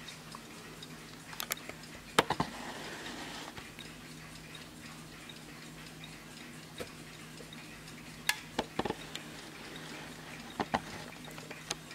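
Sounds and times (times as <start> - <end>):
clock ticking: 0.0 - 11.9
sharp clock clicks: 0.0 - 11.9.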